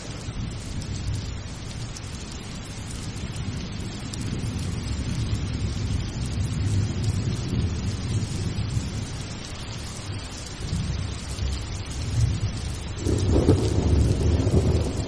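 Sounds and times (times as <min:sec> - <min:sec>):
low rumble of thunder: 0:00.0 - 0:15.0
rain falling steadily: 0:00.0 - 0:15.0.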